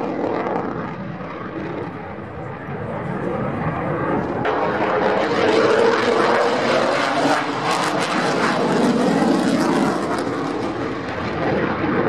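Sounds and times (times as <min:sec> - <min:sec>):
fighter jet roaring overhead: 0:00.0 - 0:12.0.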